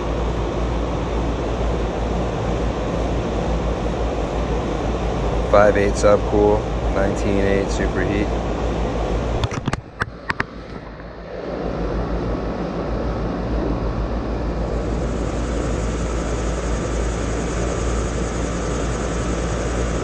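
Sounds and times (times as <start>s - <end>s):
condenser fan air rush: 0.0s - 20.0s
low compressor hum: 0.0s - 20.0s.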